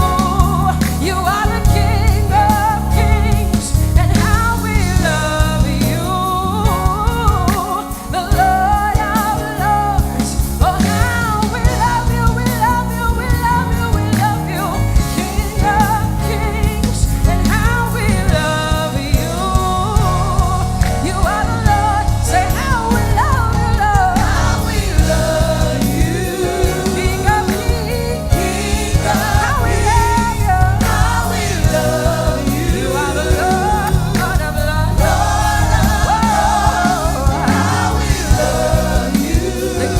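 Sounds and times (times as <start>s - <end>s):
choir singing: 0.0s - 12.8s, 18.0s - 39.9s
band with bass and keys: 0.0s - 39.9s
lead vocalist singing: 0.0s - 39.9s.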